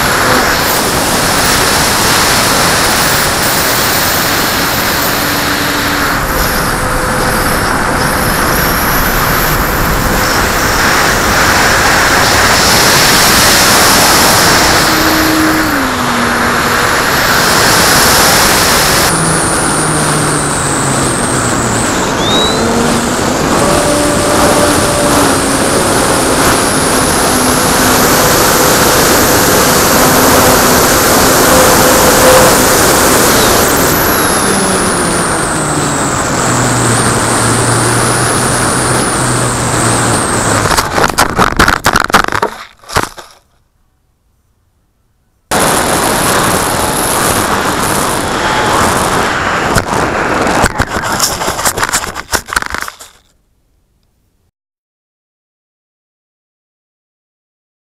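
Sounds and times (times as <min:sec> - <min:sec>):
airflow rushing over camera: 0:00.0 - 0:43.4, 0:45.5 - 0:53.3
high electric motor whine: 0:00.0 - 0:43.4, 0:45.5 - 0:53.2.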